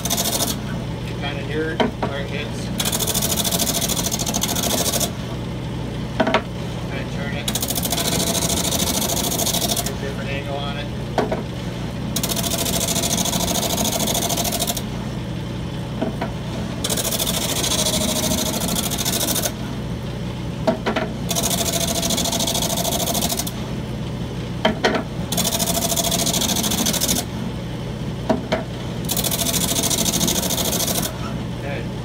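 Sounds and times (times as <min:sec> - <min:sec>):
drum sander humming: 0:00.0 - 0:32.0.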